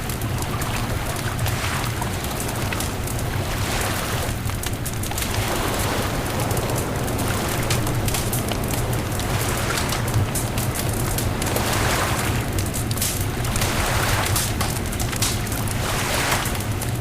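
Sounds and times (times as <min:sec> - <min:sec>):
bonfire crackling: 0:00.0 - 0:17.0
surf rumble: 0:00.0 - 0:17.0
wind: 0:00.0 - 0:17.0.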